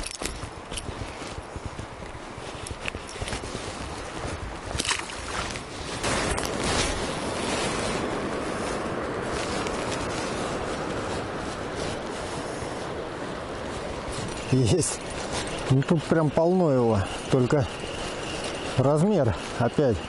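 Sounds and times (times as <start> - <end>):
footsteps through grass: 0.0 - 20.0.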